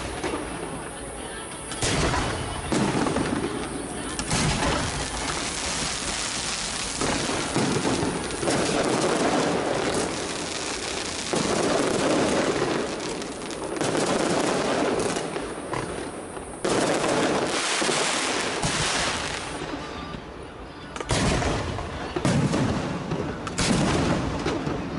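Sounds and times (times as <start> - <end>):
firecrackers crackling: 0.0 - 24.9.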